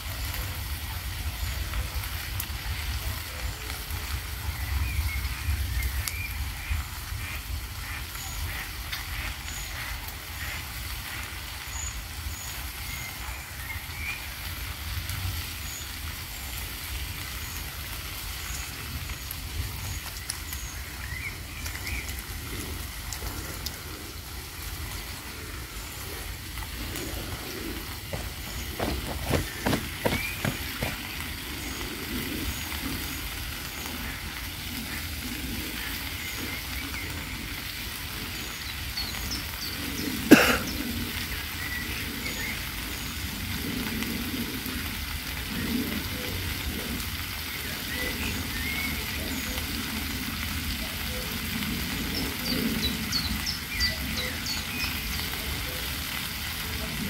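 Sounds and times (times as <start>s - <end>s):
food sizzling in a frying pan: 0.0s - 57.0s.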